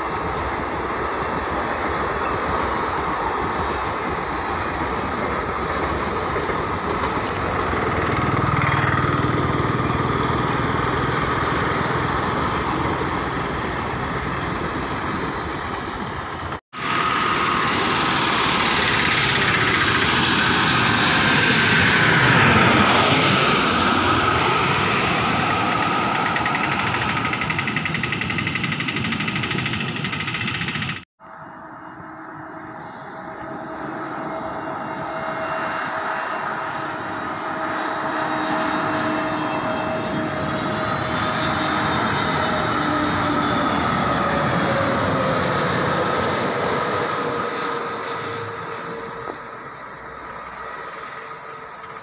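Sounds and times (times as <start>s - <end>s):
jet airliner passing overhead: 0.0s - 52.0s
train coaches rolling past: 0.0s - 52.0s.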